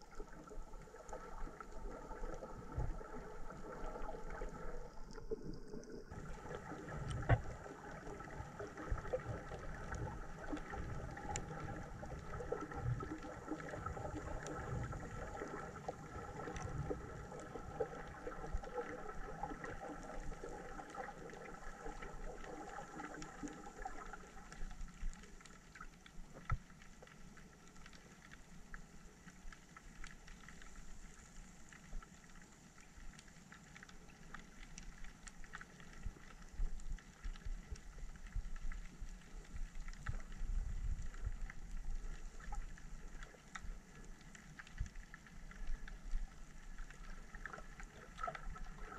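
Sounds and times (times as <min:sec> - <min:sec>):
muffled underwater hum: 0:00.0 - 0:48.9
faint clicks: 0:00.1 - 0:48.9.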